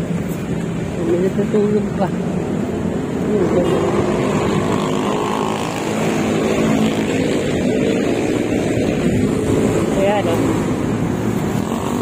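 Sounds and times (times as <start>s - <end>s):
busy road traffic: 0.0s - 12.0s.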